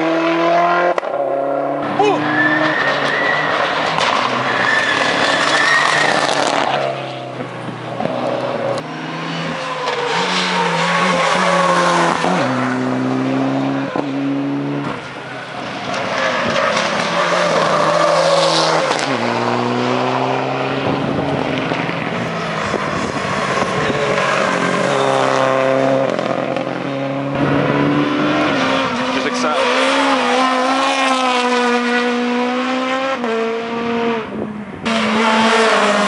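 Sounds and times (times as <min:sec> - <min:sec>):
rally car engines at full throttle: 0:00.0 - 0:36.0.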